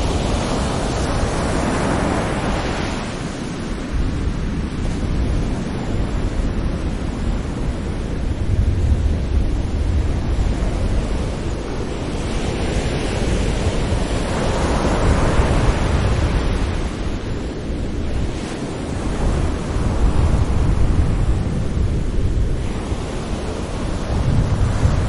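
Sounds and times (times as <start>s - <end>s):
sea waves breaking on shore: 0.0s - 25.0s
wind buffeting microphone: 0.0s - 25.0s.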